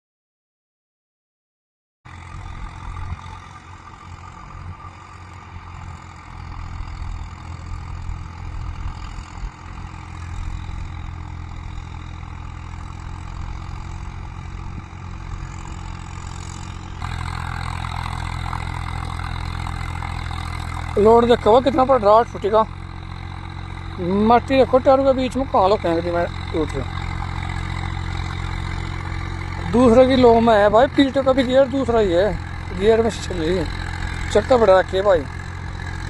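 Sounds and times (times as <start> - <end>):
tractor diesel engine under load: 2.1 - 36.0.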